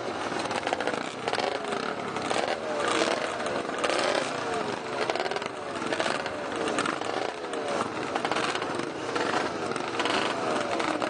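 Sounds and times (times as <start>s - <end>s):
motorcycle engines idling and revving: 0.0s - 11.0s.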